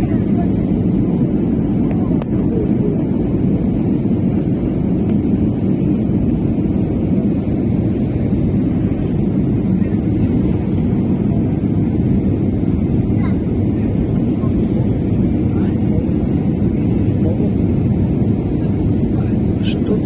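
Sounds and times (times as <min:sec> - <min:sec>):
airliner engines roaring in cabin: 0:00.0 - 0:20.0.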